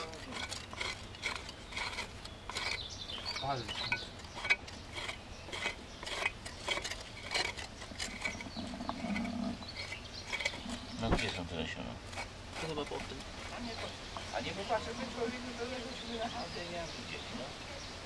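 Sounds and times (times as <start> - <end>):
metal trowels scraping soil: 0.0 - 16.0.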